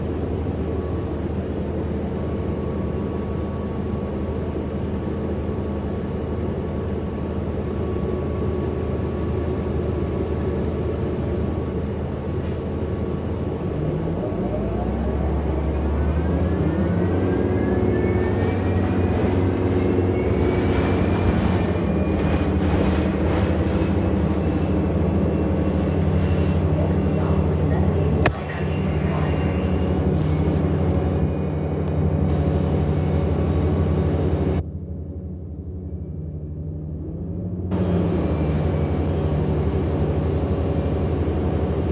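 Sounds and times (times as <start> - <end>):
bus drivetrain hum: 0.0 - 41.9.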